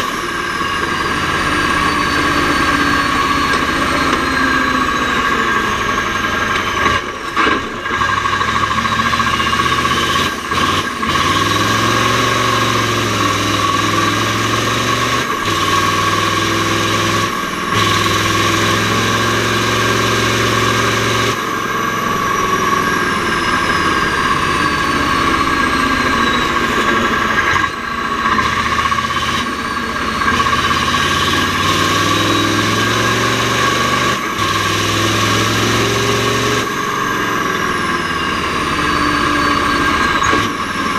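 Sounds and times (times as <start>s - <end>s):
diesel truck engine running hard: 0.0s - 40.9s
high-pitched whine: 0.0s - 40.9s.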